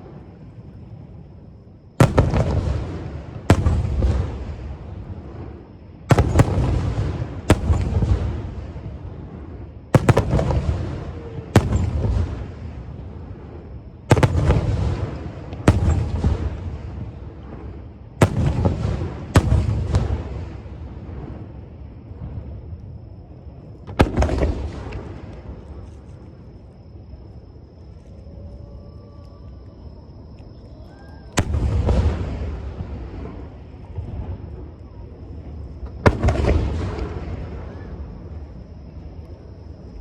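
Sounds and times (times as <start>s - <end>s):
rolling echo of booms: 2.0s - 28.2s, 31.1s - 40.0s.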